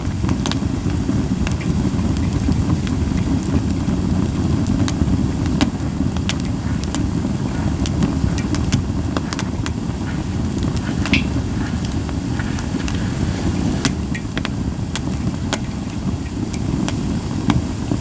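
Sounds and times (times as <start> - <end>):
campfire crackling and popping: 0.0 - 18.0
steady low rumble: 0.0 - 18.0.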